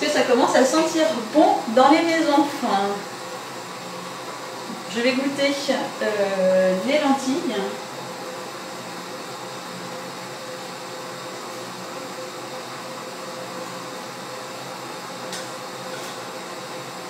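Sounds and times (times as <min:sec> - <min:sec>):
range hood fan whirring: 0:00.0 - 0:17.0.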